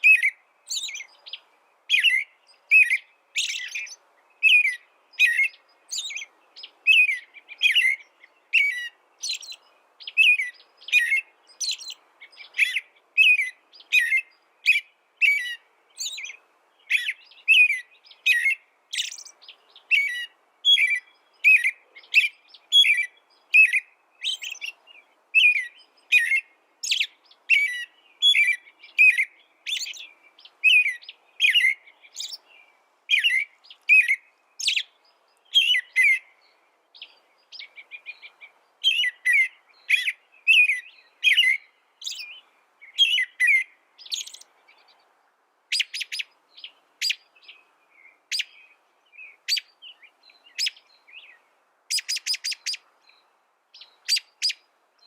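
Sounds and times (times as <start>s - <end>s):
small songbird chirping: 0.0s - 55.0s.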